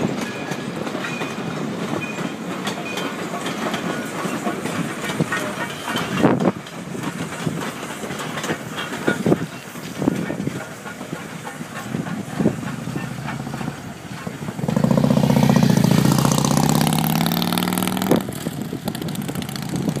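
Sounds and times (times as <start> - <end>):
train clatter and knocks: 0.0 - 20.0.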